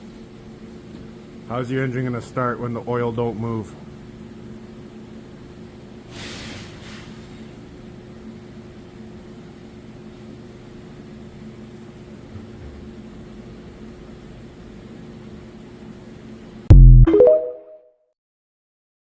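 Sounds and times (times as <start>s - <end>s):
machine hum and hiss: 0.0s - 16.6s.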